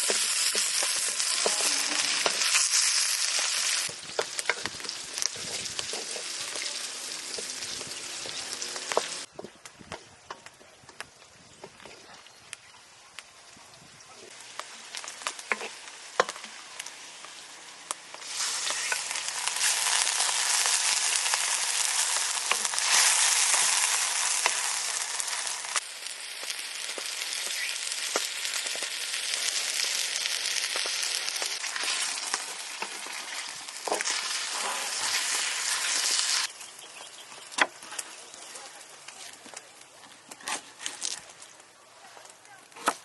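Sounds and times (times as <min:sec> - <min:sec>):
food sizzling in hot fat: 0:00.0 - 0:09.4, 0:13.2 - 0:39.6.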